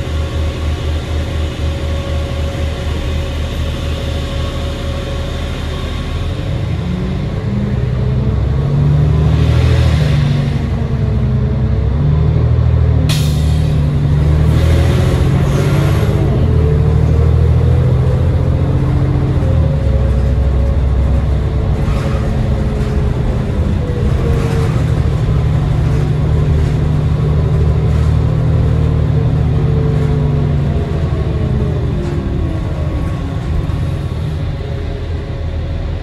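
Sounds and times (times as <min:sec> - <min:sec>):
bus diesel engine rumble: 0:00.0 - 0:36.0.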